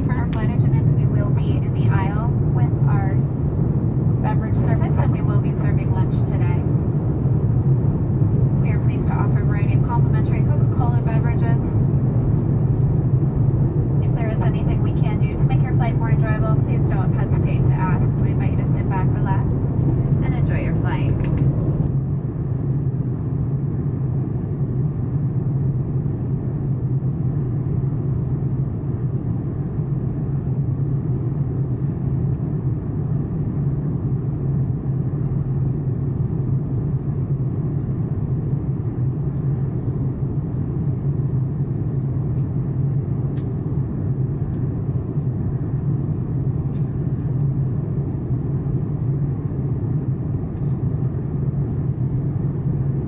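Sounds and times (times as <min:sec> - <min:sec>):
airplane cabin noise: 0:00.0 - 0:53.0.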